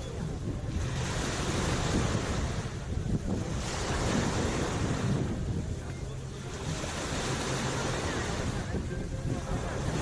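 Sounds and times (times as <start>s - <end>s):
small waves washing onto shore: 0.0s - 10.0s
wind buffeting microphone: 0.0s - 10.0s.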